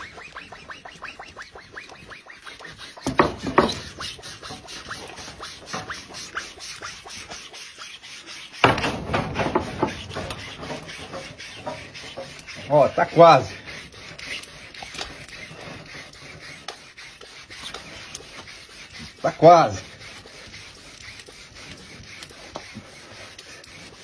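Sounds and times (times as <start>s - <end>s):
saw rasping through horn: 0.0s - 24.0s.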